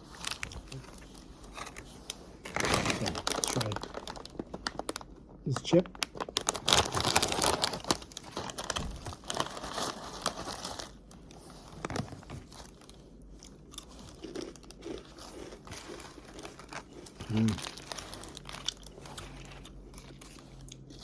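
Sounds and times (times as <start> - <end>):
chip bag crinkling: 0.0 - 21.0
crunching and chewing chips: 0.0 - 21.0.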